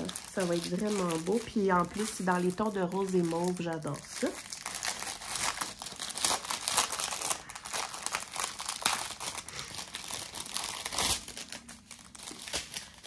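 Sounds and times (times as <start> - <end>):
plastic sachets crinkling: 0.0 - 13.0.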